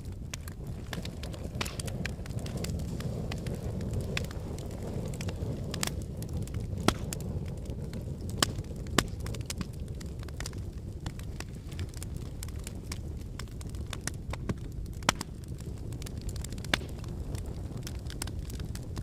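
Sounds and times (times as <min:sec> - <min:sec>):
fire crackles: 0:00.0 - 0:19.0
fire rumble and hiss: 0:00.0 - 0:19.0
logs popping: 0:00.0 - 0:19.0.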